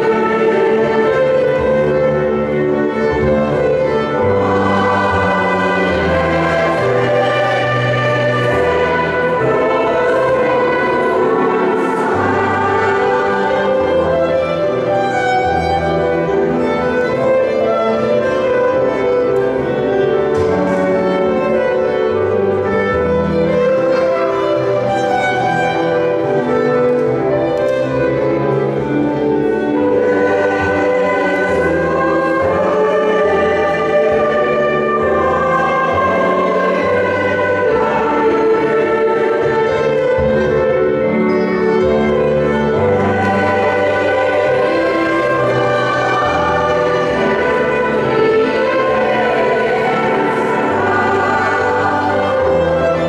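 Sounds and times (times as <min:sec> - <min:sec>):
mixed choir singing: 0:00.0 - 0:53.0
violins keyboard and clarinet: 0:00.0 - 0:53.0.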